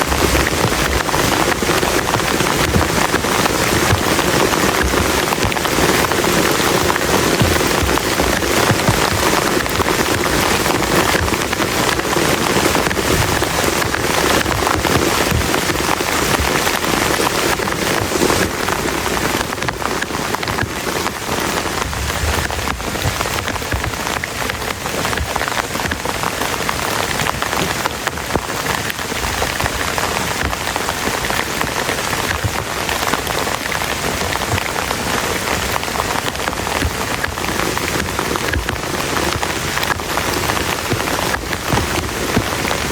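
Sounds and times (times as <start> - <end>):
heavy rain on plastic tarp: 0.0 - 42.9.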